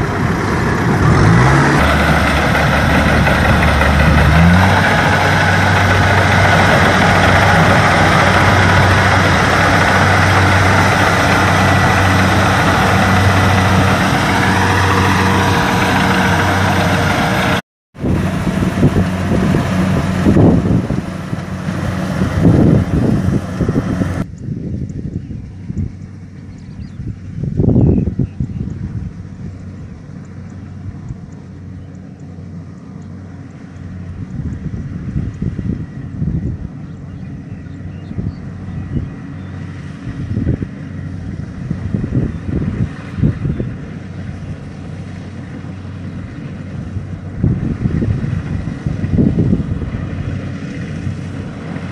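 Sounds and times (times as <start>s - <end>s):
combine harvester droning: 0.0s - 24.6s, 25.5s - 51.9s
wind gusts on microphone: 0.0s - 31.3s, 33.9s - 51.9s.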